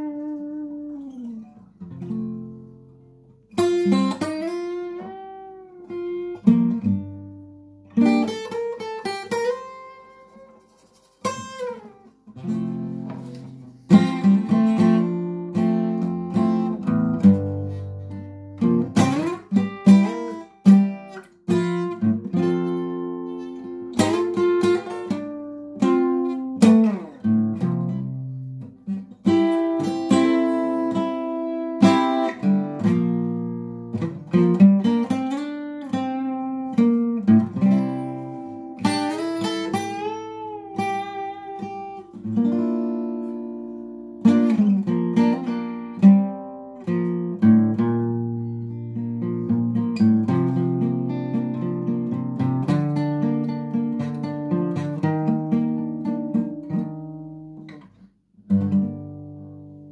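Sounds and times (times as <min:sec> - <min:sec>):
solo acoustic guitar: 0:00.0 - 0:59.9.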